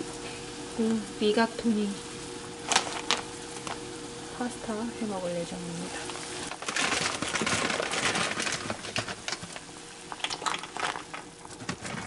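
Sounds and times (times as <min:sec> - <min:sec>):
pot of water boiling: 0:00.0 - 0:12.0.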